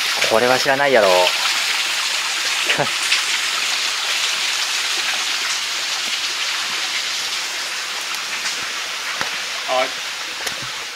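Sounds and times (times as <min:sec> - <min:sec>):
waterfall hissing: 0:00.0 - 0:10.9.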